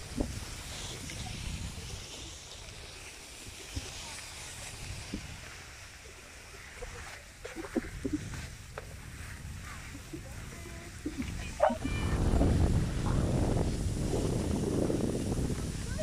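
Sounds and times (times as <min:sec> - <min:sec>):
skis hissing over snow: 0:00.0 - 0:16.0
wind rumble on microphone: 0:00.0 - 0:16.0.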